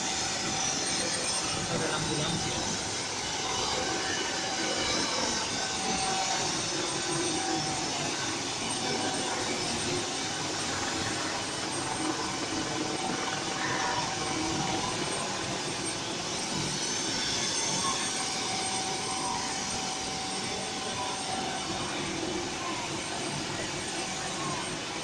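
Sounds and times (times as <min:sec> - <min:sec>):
helicopter turbine whine: 0:00.0 - 0:25.0.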